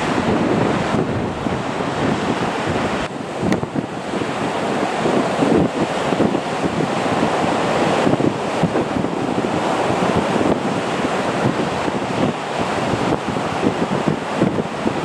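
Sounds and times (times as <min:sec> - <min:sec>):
jet engines roaring: 0:00.0 - 0:15.0
wind buffeting microphone: 0:00.0 - 0:15.0.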